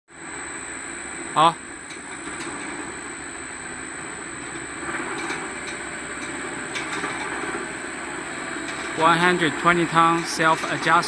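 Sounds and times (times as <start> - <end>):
welding rotator rumbling: 0.2 - 11.0.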